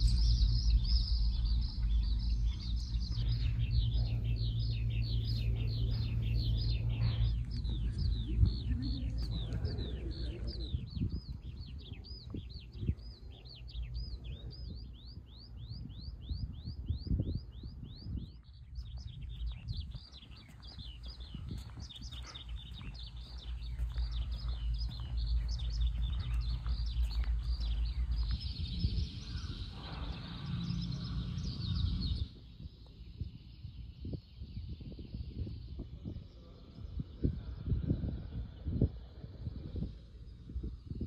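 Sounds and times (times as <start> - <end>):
birds chirping: 0.0 - 41.0
low rumble: 0.0 - 41.0.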